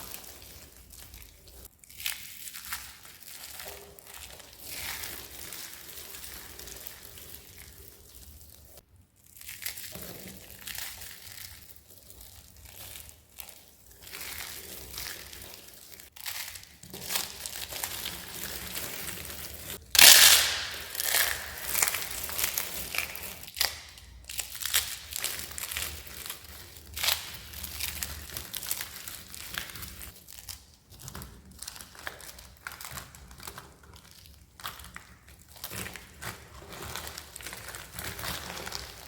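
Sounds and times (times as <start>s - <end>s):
dry soap crunching: 0.0s - 39.0s.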